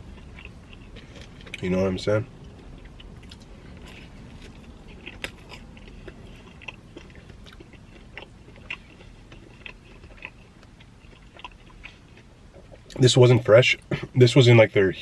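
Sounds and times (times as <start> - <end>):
chewing pizza: 0.0 - 14.2
steady low hum: 0.0 - 15.0.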